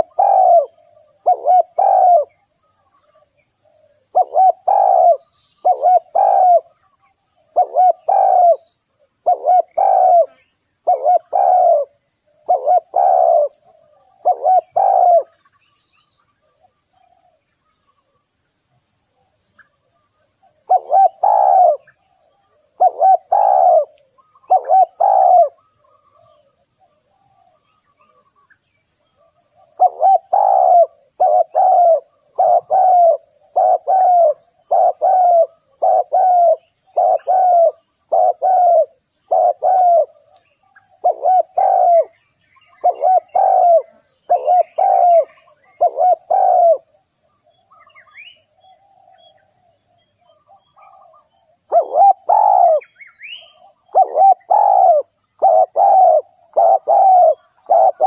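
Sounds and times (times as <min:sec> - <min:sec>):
dove cooing: 0:00.0 - 0:15.5, 0:20.5 - 0:28.3, 0:29.2 - 0:47.0, 0:48.6 - 0:58.0.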